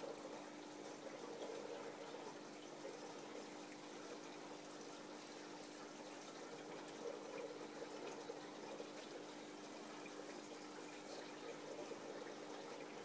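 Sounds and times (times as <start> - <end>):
aquarium water bubbling: 0.0 - 13.0
pump humming: 0.0 - 13.0.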